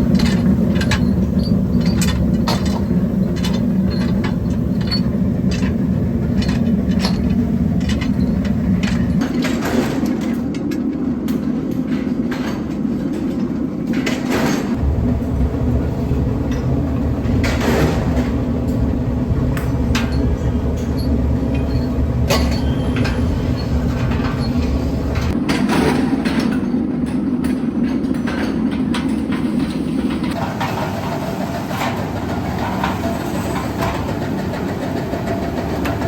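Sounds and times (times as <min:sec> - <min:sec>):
factory machinery humming: 0:00.0 - 0:36.0.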